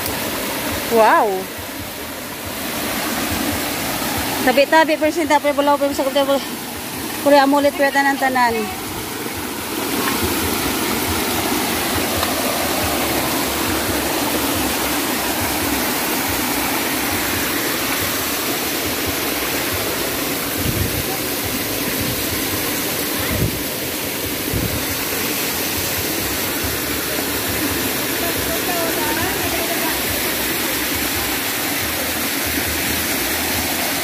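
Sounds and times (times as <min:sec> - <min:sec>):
stream splashing over rocks: 0:00.0 - 0:34.0.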